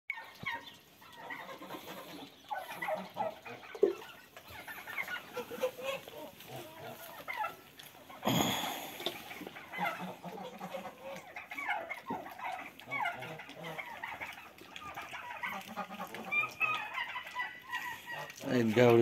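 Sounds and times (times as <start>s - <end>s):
puppies lapping from metal bowl: 0.1s - 19.0s.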